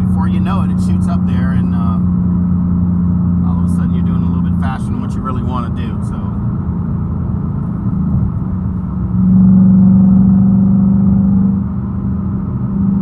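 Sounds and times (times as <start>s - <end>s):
car engine droning at highway speed: 0.0s - 13.0s.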